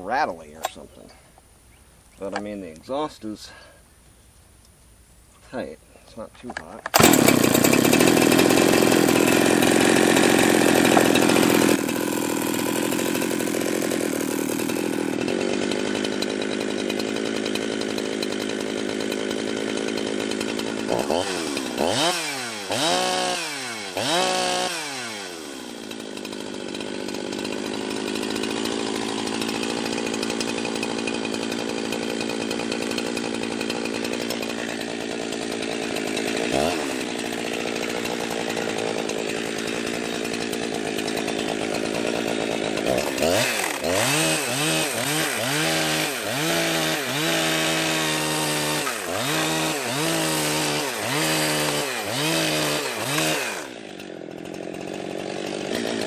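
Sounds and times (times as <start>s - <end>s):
chainsaw revving: 6.8s - 56.0s.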